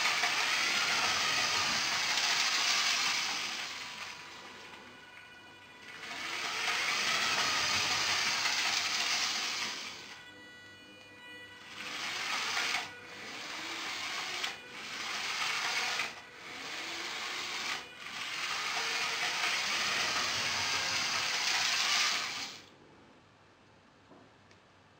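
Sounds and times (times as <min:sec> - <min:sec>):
wheels running on plastic track: 0:00.0 - 0:05.1, 0:05.8 - 0:10.3, 0:11.6 - 0:22.7
toy train motor whirring: 0:00.0 - 0:22.7.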